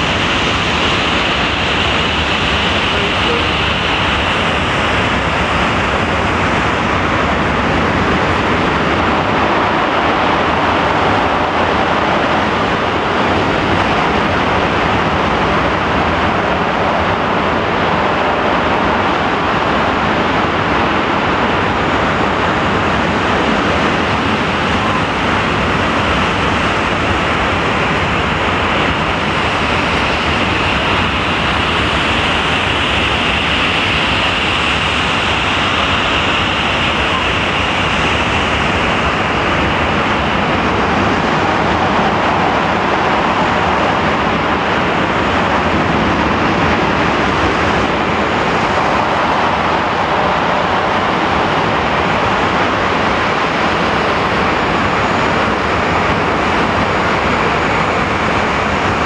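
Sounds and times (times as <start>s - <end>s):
jet engines roaring with whine: 0.0s - 59.0s.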